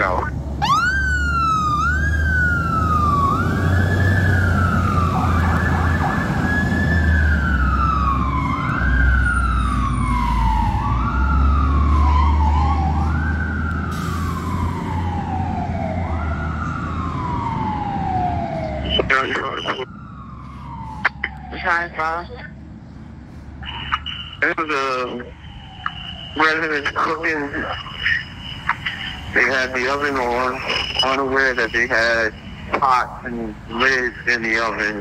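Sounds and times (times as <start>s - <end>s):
fire truck siren wailing: 0.0s - 22.8s, 23.5s - 35.0s.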